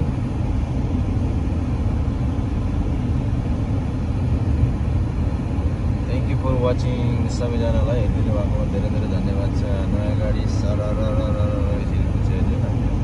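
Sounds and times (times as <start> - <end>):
road and engine noise inside car: 0.0 - 13.0.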